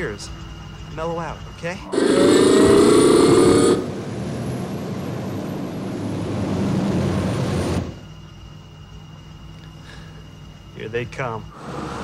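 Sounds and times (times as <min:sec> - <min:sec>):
faint high whine: 0:00.0 - 0:12.0
sci-fi engine hiss and hum: 0:00.0 - 0:12.0.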